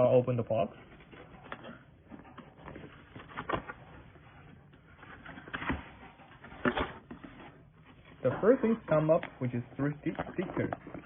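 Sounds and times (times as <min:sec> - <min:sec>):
cardboard scraping and rustling: 0:01.0 - 0:11.0.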